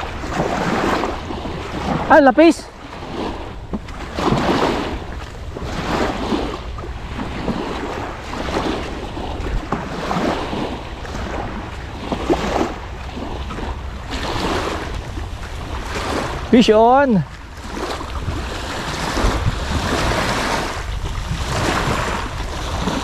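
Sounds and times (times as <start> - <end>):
sea waves washing on shore: 0.0 - 23.0
wind buffeting microphone: 0.0 - 23.0.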